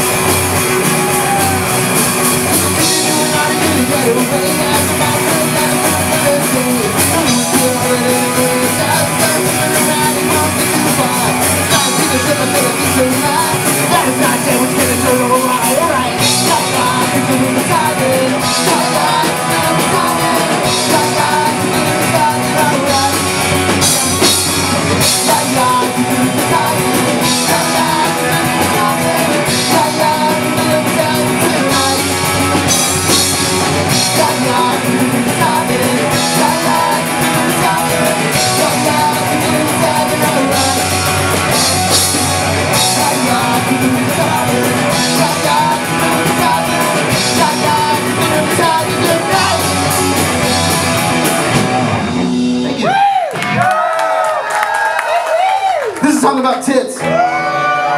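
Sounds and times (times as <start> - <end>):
person singing: 0.0 - 51.4
punk rock band playing: 0.0 - 57.9.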